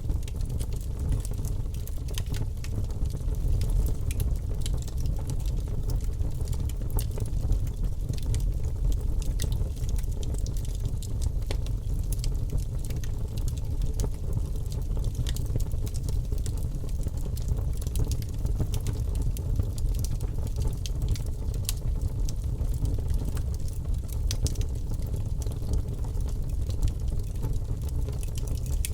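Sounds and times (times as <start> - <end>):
fire crackling and popping: 0.0 - 28.9
flames rumbling: 0.0 - 28.9.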